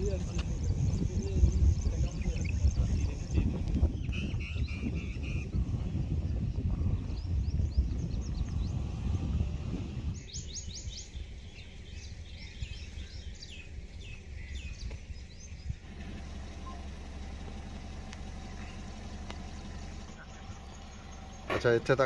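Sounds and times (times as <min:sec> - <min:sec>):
low rumble: 0:00.0 - 0:10.4, 0:11.2 - 0:22.0
birds chirping: 0:00.0 - 0:22.0.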